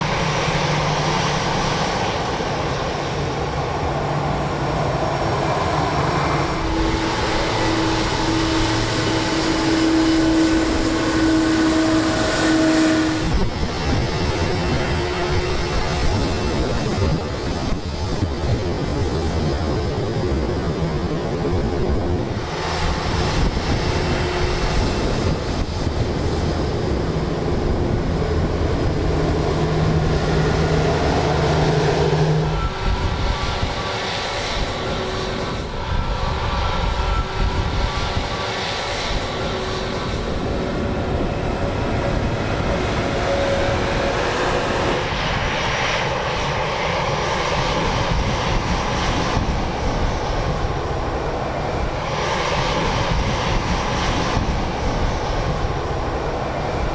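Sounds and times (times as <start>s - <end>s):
jet engines roaring and whining: 0.0s - 56.9s.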